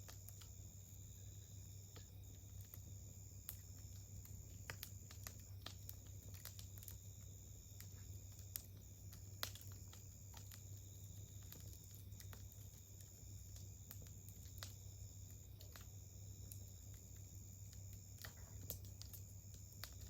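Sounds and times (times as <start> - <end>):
campfire wood crackling: 0.0 - 20.0.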